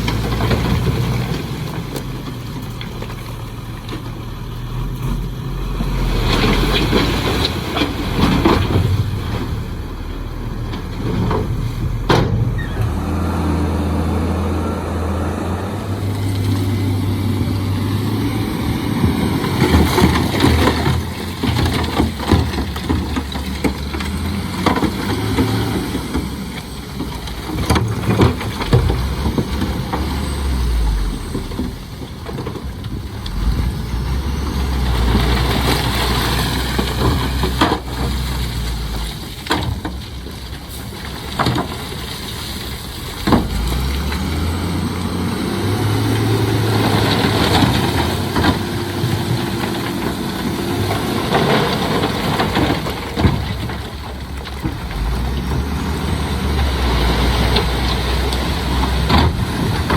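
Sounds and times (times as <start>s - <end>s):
diesel machinery engine: 0.0s - 59.9s.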